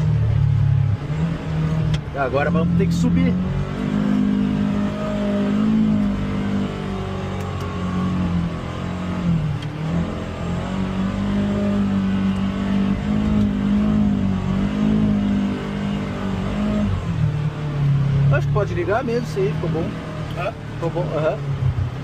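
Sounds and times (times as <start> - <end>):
utv engine revving: 0.0 - 22.0.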